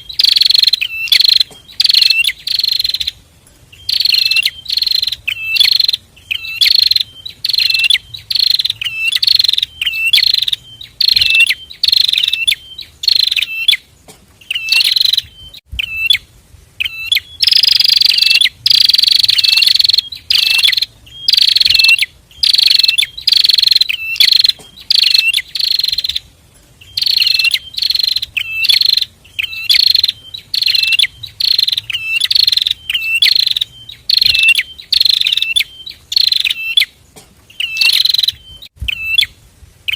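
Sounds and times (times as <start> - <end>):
birds chirping sharply: 0.0 - 39.3.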